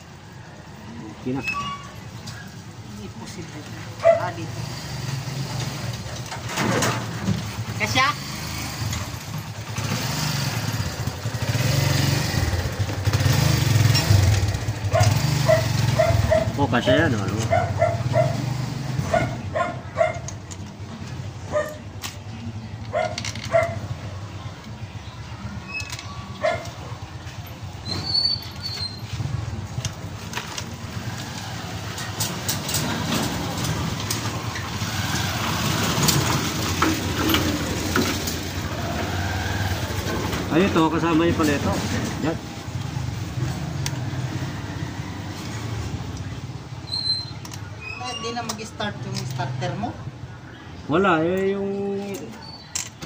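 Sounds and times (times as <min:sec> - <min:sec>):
small engine rumbling: 0:00.0 - 0:53.0.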